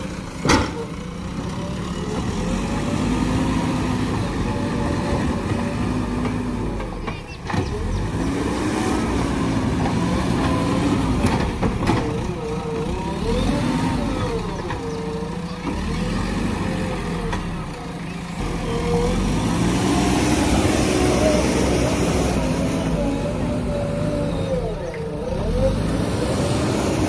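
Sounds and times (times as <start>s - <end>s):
backhoe diesel engine working: 0.0s - 27.0s.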